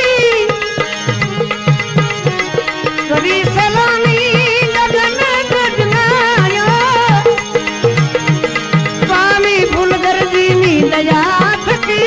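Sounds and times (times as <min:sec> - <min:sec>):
devotional melody wavering in pitch: 0:00.0 - 0:12.0.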